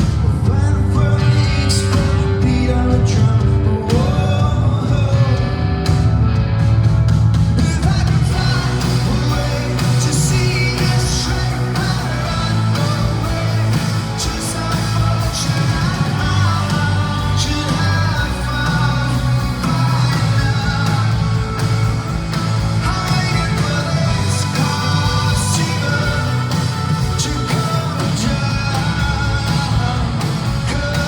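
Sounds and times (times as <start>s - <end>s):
bass guitar: 0.0s - 31.0s
drums: 0.0s - 31.0s
electric guitars: 0.0s - 31.0s.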